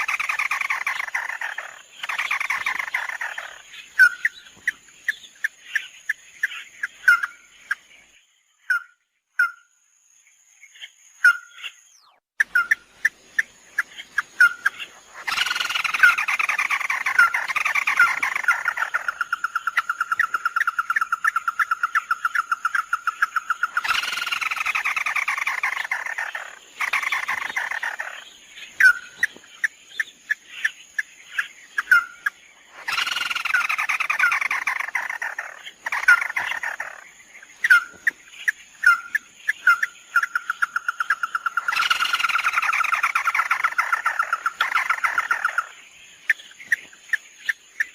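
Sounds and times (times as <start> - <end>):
bird harsh chatter and trill: 0.0 - 9.6, 10.7 - 47.9.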